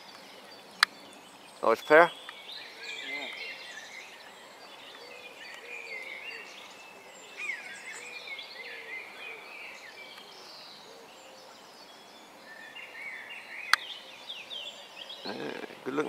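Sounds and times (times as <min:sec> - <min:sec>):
small birds singing and chirping: 0:00.0 - 0:16.0.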